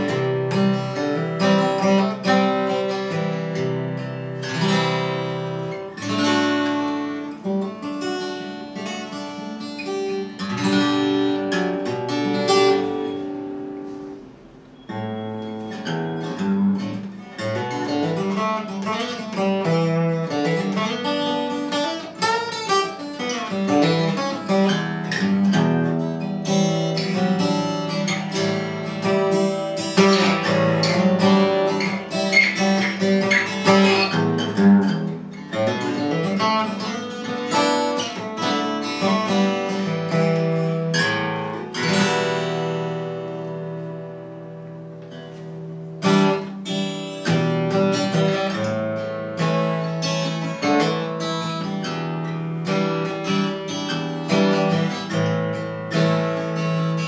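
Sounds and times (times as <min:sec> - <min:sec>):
fingerstyle acoustic guitar: 0:00.0 - 0:57.0.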